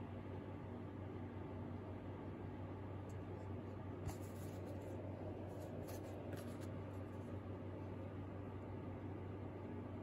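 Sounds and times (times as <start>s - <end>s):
room tone hum and hiss: 0.0s - 10.0s.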